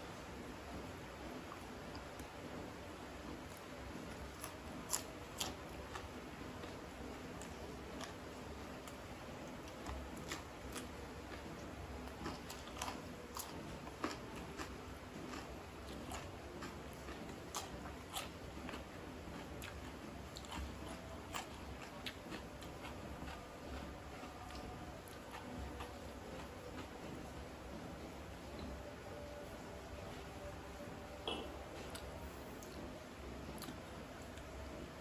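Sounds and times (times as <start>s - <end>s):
chewing and crunching cucumber: 1.4s - 29.4s, 30.4s - 34.8s.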